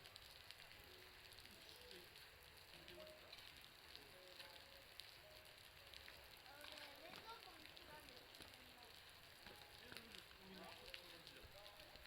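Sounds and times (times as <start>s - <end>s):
bonfire crackling: 0.0s - 12.0s
meltwater dripping off roof: 0.0s - 12.0s.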